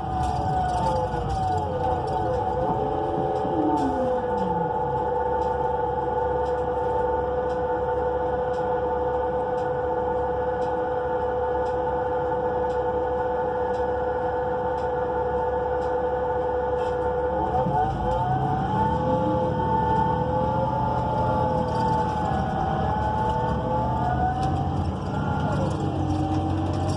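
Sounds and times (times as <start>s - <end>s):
bus engine low rumble: 0.0s - 26.9s
steady transmission whine: 0.0s - 26.9s.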